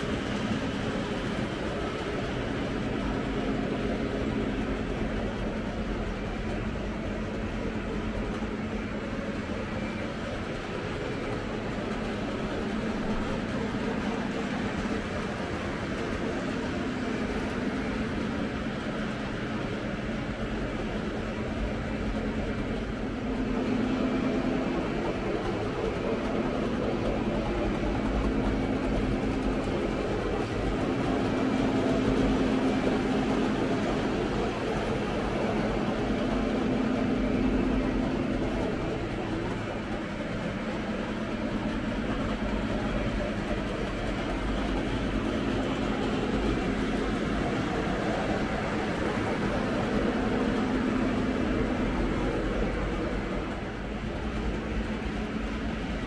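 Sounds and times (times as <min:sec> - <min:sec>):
model train wheels rumbling: 0:00.0 - 0:56.0
train motors humming: 0:00.0 - 0:56.0.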